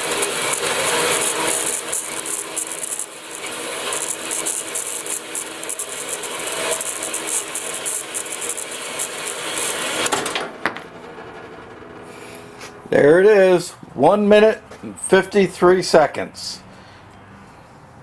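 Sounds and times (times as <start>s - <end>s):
band saw cutting metal: 0.0s - 16.0s.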